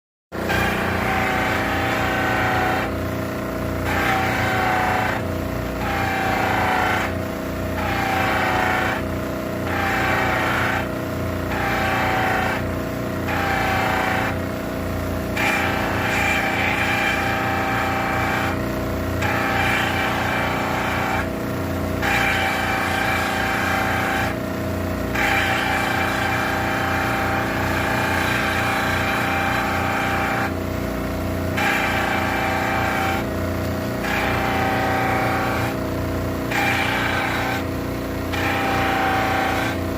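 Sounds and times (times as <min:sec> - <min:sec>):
buffing wheel whirring on metal: 0:00.4 - 0:39.9
polishing machine humming: 0:00.4 - 0:39.9.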